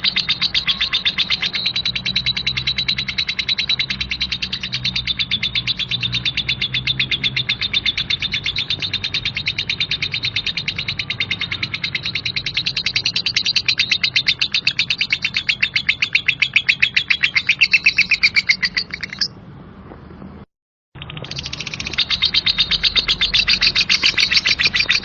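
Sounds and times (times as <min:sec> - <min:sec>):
bird harsh rapid chirps: 0:00.0 - 0:19.4, 0:21.0 - 0:25.0.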